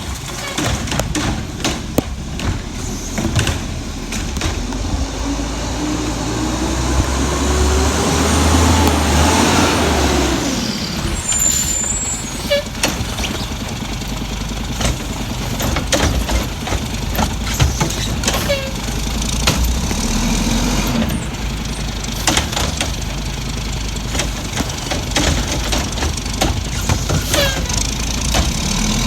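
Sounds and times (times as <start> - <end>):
garbage truck engine revving: 0.0 - 29.0.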